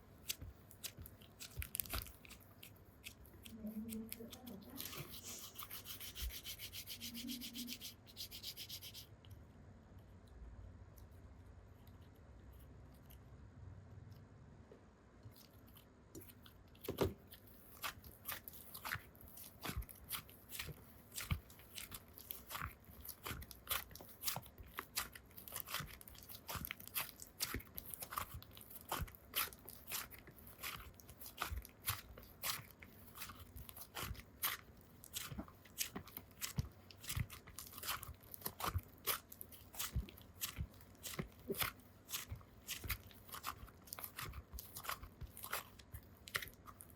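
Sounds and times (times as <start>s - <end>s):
crackling and crunching by hand: 0.0s - 9.0s, 15.2s - 46.9s.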